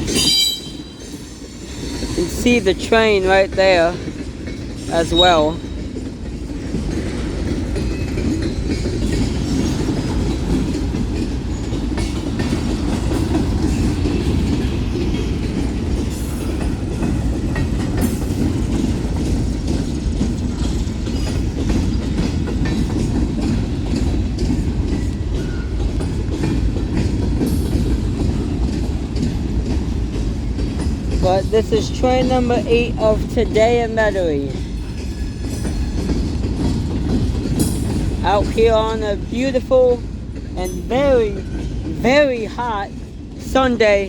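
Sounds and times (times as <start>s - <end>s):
freight train rumbling past: 0.0s - 44.0s
wheels clacking over rails: 0.0s - 44.0s.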